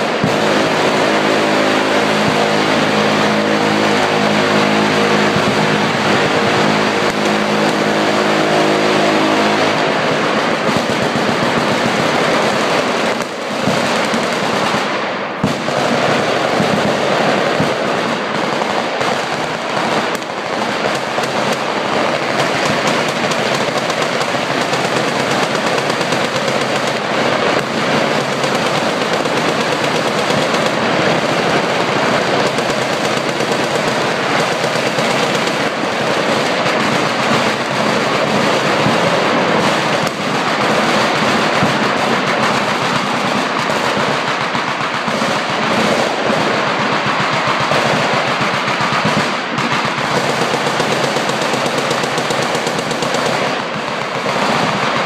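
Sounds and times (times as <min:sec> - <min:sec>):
machine guns firing: 0:00.0 - 0:55.0.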